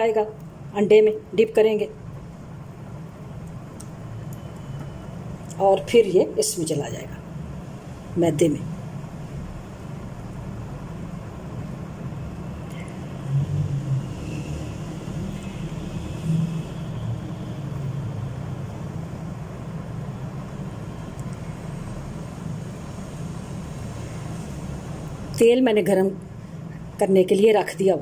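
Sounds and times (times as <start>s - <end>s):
low background hum: 0.0s - 28.0s.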